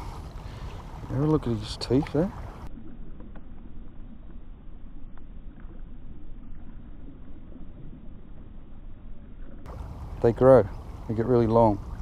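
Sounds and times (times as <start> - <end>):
faint water splashes: 0.0 - 12.0.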